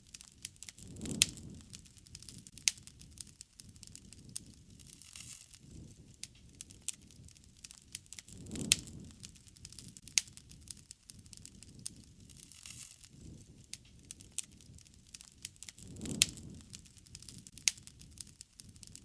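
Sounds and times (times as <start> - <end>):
soft rush of flame: 0.0 - 19.0
wood fire crackling and popping: 0.0 - 19.0.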